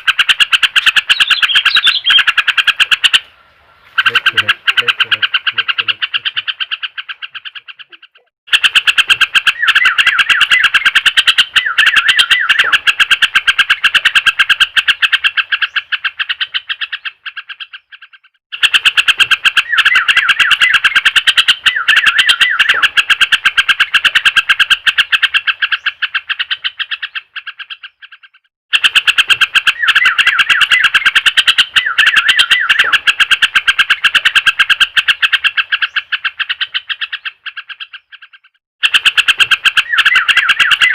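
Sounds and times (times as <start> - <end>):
bird chattering chirps: 0.0 - 40.9.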